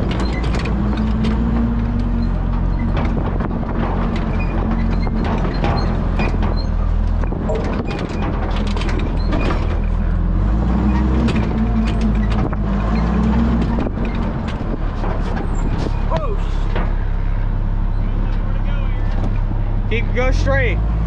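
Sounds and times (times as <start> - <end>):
rattling and clanking: 0.0 - 21.0
truck engine running: 0.0 - 21.0.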